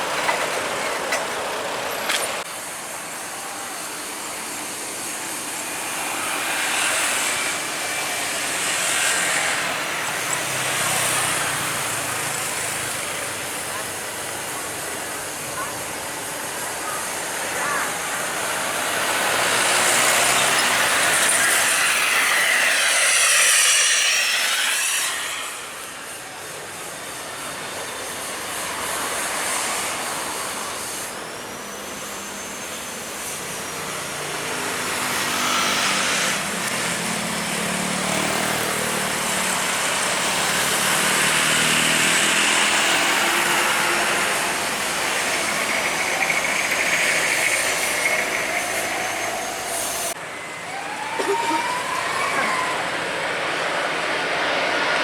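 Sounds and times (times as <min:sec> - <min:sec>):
jet airliner passing: 0:00.0 - 0:55.0.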